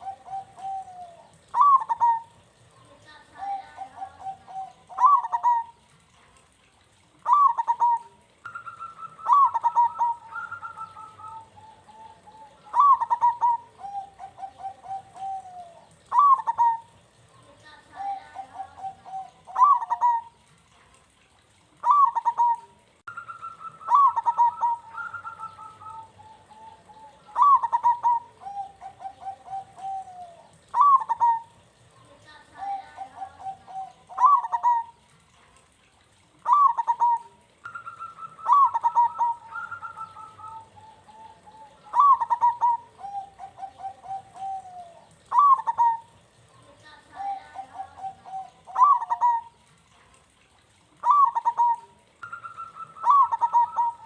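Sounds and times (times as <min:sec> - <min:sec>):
dove cooing song: 0:00.0 - 0:06.2, 0:07.0 - 0:20.7, 0:21.4 - 0:35.2, 0:35.9 - 0:54.0.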